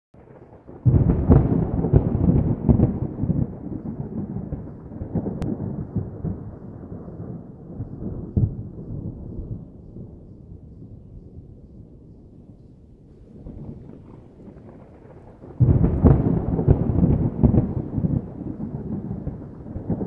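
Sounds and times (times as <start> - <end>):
thunder rumbling: 0.2 - 20.0.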